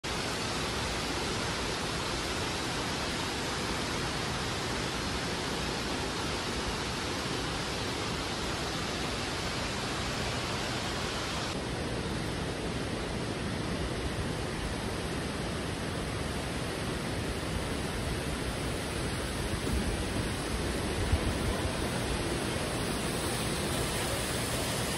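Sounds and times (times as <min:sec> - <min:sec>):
rushing falling water: 0:00.0 - 0:24.9.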